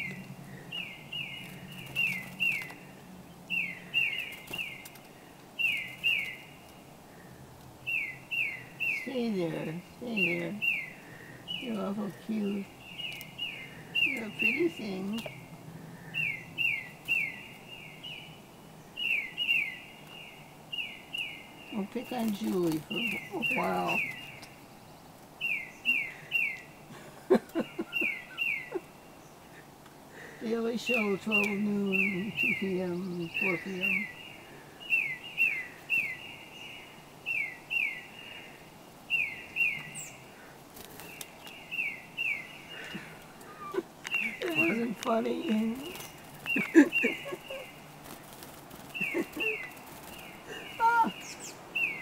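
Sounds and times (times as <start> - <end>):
small bird chirping: 0.0 - 6.9, 7.8 - 29.6, 30.4 - 52.0.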